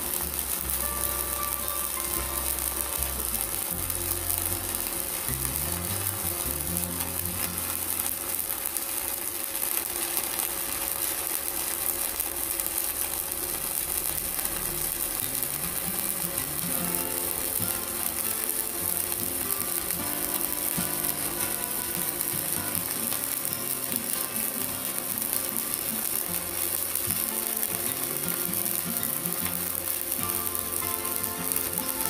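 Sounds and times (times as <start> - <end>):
welding arc crackling and sizzling: 0.0 - 32.0.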